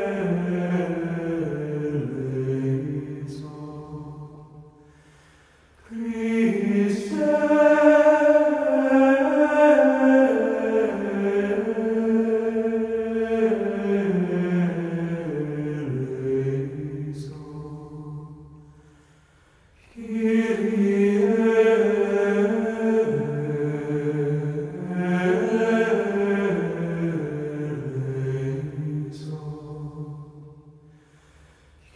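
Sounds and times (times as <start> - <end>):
person singing unaccompanied chant: 0.0 - 4.7, 5.8 - 18.3, 19.9 - 30.5.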